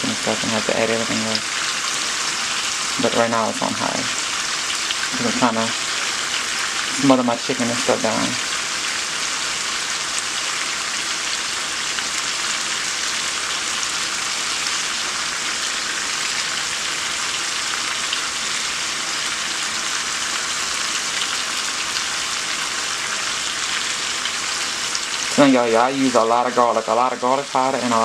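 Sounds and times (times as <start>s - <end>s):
meat sizzling in a pot: 0.0s - 28.0s.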